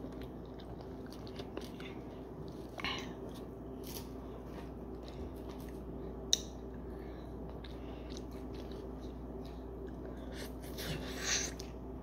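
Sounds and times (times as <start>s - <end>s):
person chewing food: 0.0s - 11.9s
faint steady hum: 0.0s - 12.0s.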